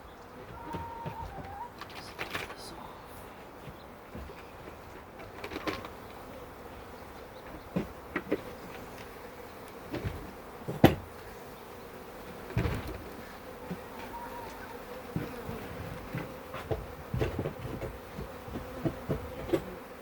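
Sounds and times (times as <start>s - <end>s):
honeybees buzzing: 0.0s - 20.0s
knocks and clatters of hive parts: 0.4s - 2.7s, 3.6s - 6.4s, 7.3s - 11.4s, 12.2s - 20.0s.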